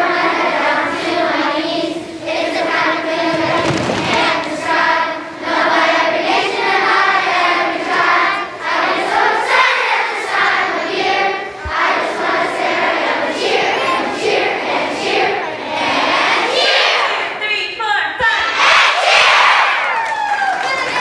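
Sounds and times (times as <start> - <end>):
children's choir singing: 0.0 - 17.4, 18.2 - 19.9.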